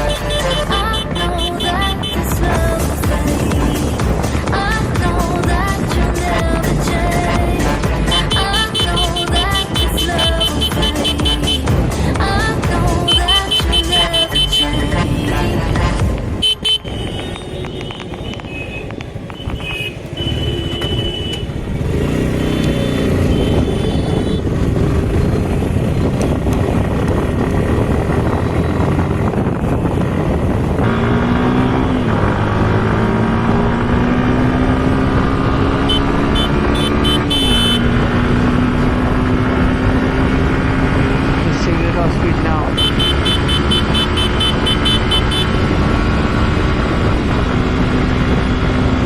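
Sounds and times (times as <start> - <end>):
motorcycle engine accelerating: 0.0 - 49.0
road and wind noise: 0.0 - 49.0.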